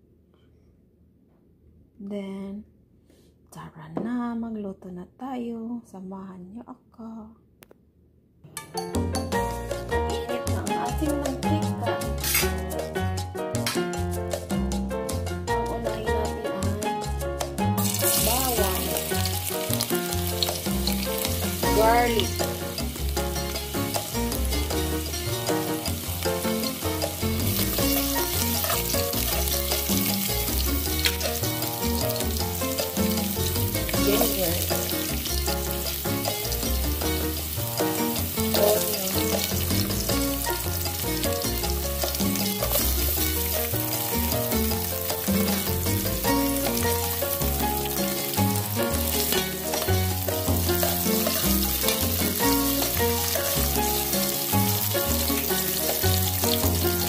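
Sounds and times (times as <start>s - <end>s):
music: 8.4s - 57.0s
aromatics sizzling in a pot: 9.3s - 57.0s.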